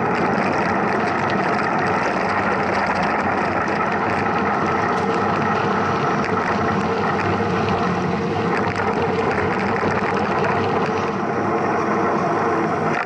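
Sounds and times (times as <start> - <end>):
bike tyres rolling on trail: 0.0 - 13.0
wind on microphone: 0.0 - 13.0.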